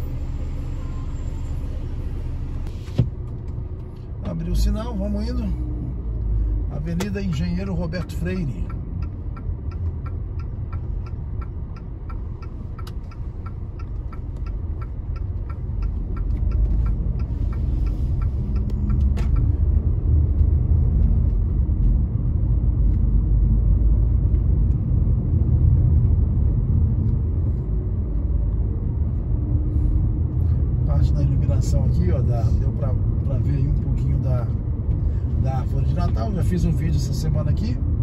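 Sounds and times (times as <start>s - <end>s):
car road and engine rumble: 0.0s - 38.0s.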